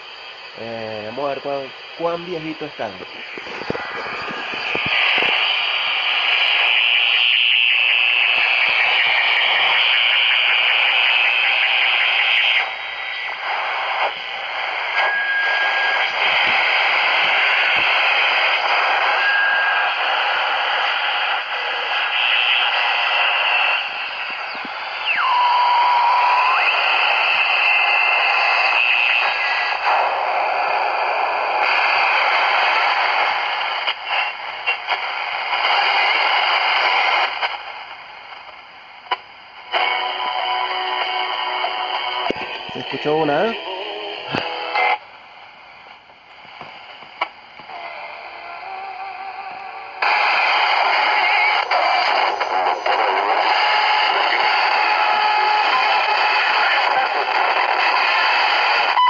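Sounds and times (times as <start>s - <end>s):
radio static being tuned: 0.0s - 59.0s
radio whistles: 0.7s - 45.0s, 45.9s - 59.0s.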